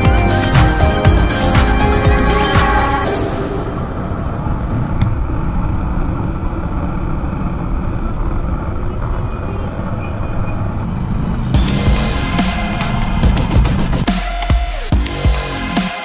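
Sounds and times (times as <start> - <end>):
motorcycle engine rumbling: 0.0 - 14.1
street traffic: 0.0 - 15.9.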